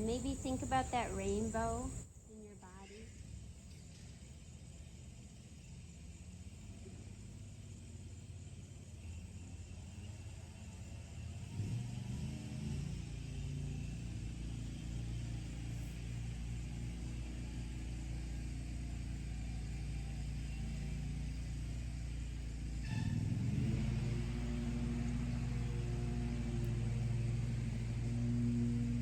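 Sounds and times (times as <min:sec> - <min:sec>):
low hum with held pitches: 0:00.0 - 0:10.8, 0:13.6 - 0:29.0.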